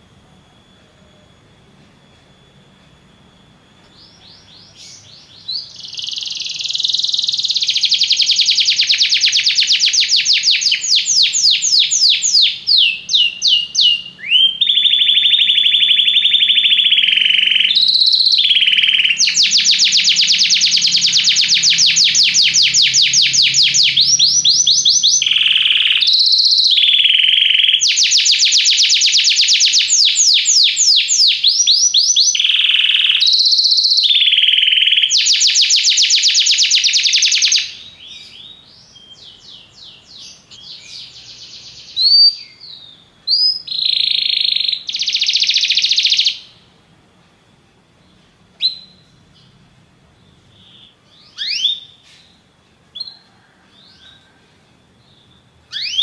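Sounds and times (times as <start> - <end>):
canary singing trills: 3.9 - 46.6, 48.0 - 56.0.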